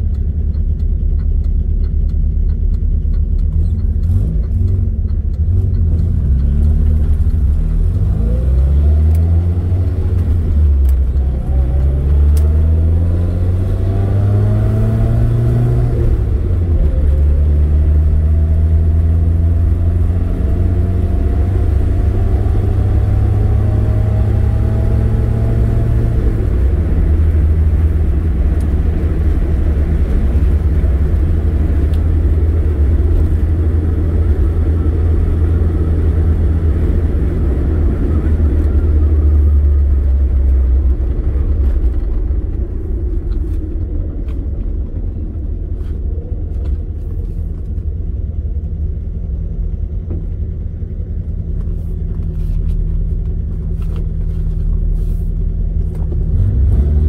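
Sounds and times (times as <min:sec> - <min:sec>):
car engine: 0:00.0 - 0:57.0
tyre road rumble: 0:00.0 - 0:57.0.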